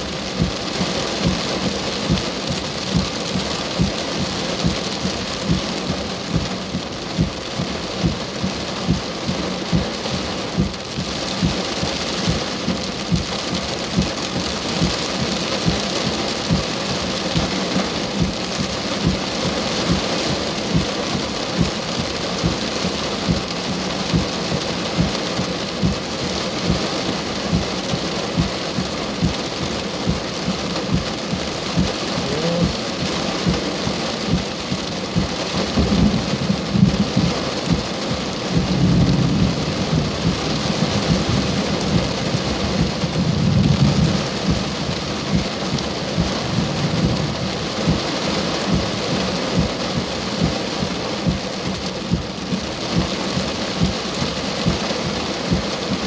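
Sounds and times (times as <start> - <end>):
thunder rumbling: 0.0 - 21.0, 30.0 - 53.9
heavy rain falling: 0.0 - 56.0.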